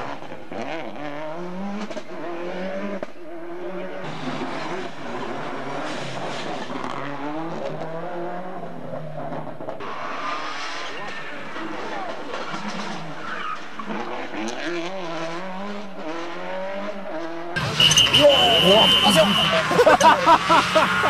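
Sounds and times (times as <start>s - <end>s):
rally car engines at full throttle: 0.0s - 21.0s.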